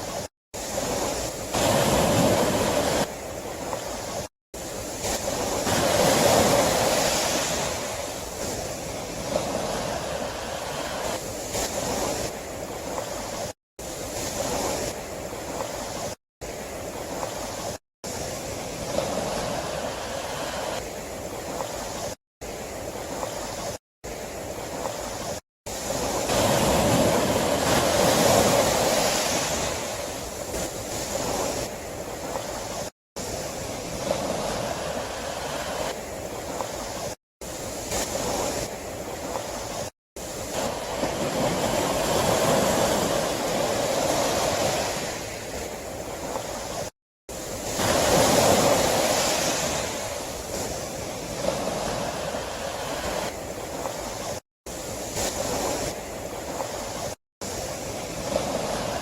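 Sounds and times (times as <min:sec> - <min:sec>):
sea waves breaking ashore: 0:00.0 - 0:59.0.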